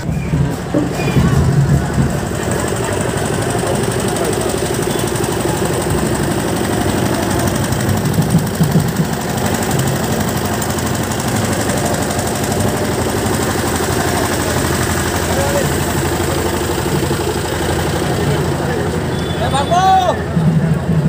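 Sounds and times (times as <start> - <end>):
pickup truck engine clattering: 0.0 - 21.0.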